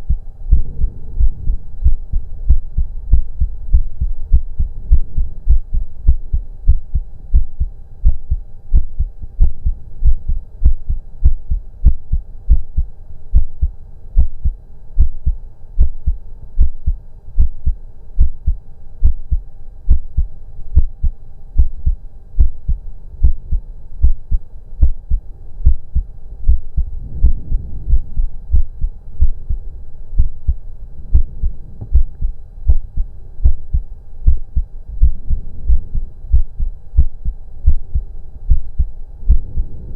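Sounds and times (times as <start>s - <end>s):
heartbeat through stethoscope: 0.0s - 39.8s
faint steady hum: 0.0s - 39.9s.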